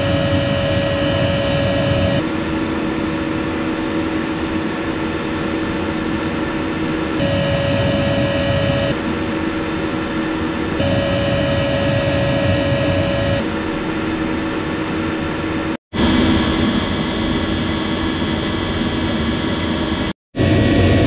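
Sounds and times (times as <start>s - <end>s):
air heater running: 0.0s - 21.0s.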